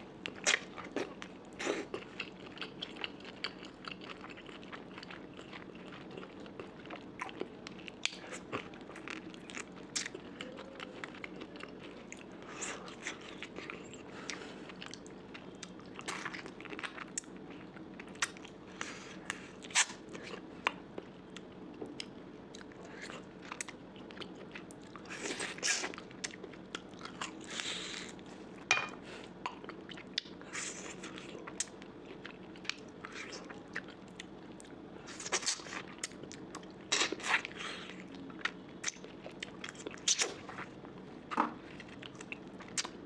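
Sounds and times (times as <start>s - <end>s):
person chewing food: 0.2s - 43.0s.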